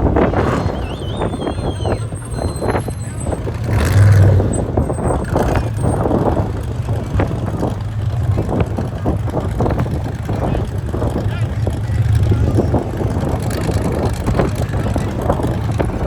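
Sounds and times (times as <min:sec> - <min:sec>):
off-road vehicle engine passing: 0:00.0 - 0:15.9.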